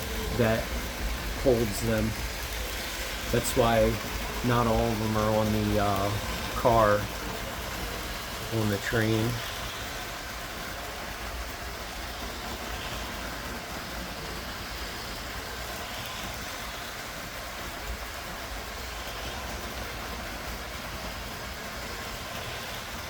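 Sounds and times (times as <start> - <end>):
toy train motor whir: 0.0 - 23.0.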